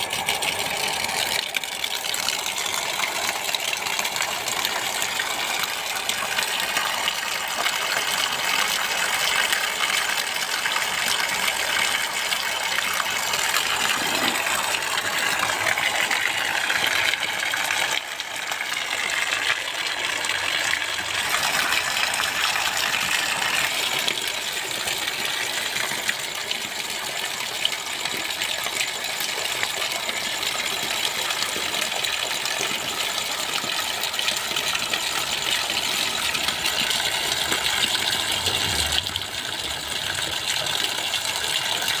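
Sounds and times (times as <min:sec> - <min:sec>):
electric water pump running: 0:00.0 - 0:42.0
water gushing from a pipe: 0:00.0 - 0:42.0.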